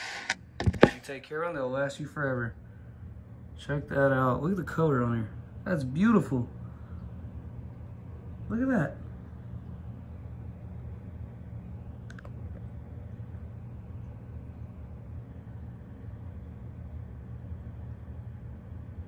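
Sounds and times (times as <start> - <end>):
low hum of room noise: 0.0 - 19.0.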